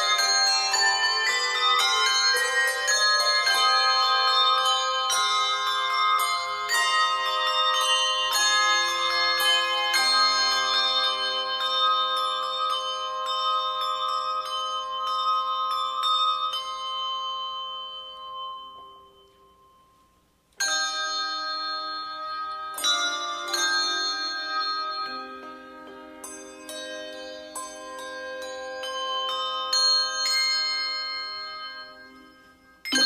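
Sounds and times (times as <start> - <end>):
christmas bell music: 0.0 - 33.0.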